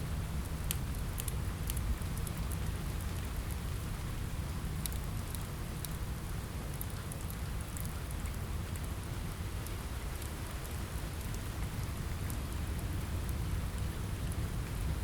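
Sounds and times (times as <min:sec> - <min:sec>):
rain on a window: 0:00.0 - 0:15.0.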